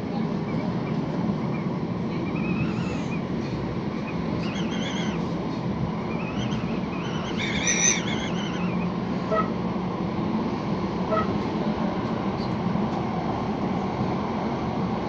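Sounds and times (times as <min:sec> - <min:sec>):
tram rumble: 0:00.0 - 0:15.0.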